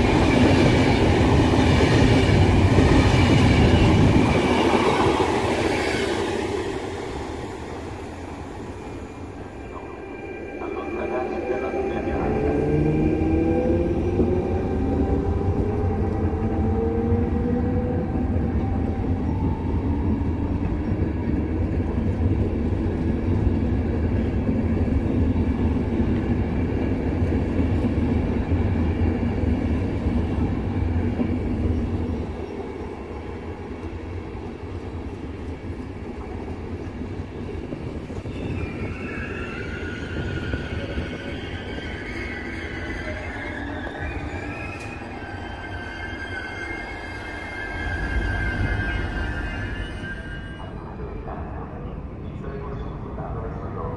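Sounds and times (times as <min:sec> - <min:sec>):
high steady locomotive tones: 0:00.0 - 0:53.9
train wheels rumbling on rail: 0:00.0 - 0:53.9.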